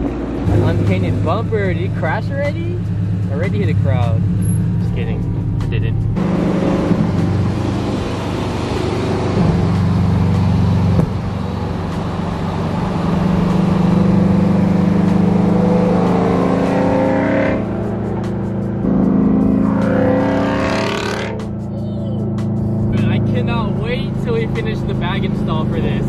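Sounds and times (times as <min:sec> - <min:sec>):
car engine and exhaust drone: 0:00.0 - 0:26.0.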